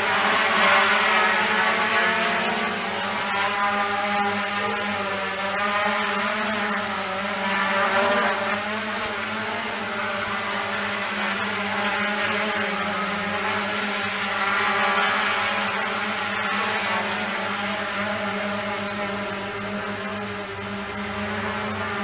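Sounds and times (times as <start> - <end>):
quadcopter propellers buzzing: 0.0 - 22.0.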